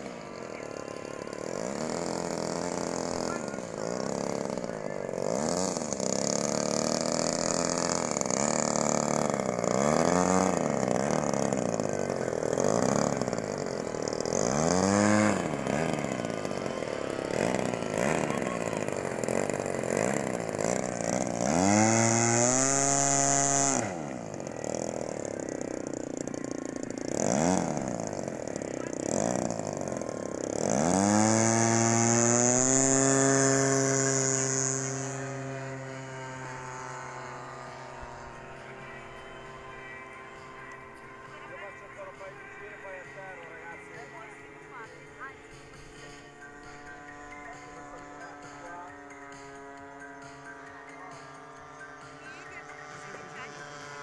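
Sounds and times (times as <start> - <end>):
model airplane engine: 0.0 - 54.0.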